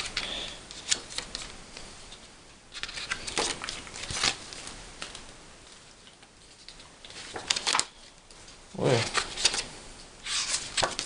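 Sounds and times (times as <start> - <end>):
paper pages rustling: 0.0 - 5.3, 6.0 - 11.0.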